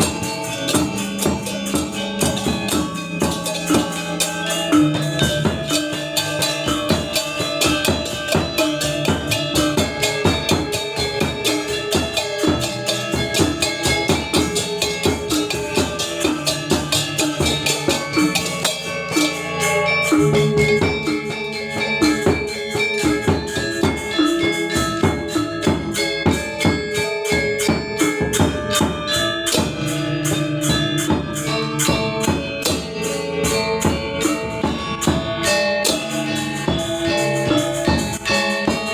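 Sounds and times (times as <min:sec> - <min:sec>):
drums: 0:00.0 - 0:38.9
metallophones and gongs playing: 0:00.0 - 0:38.9.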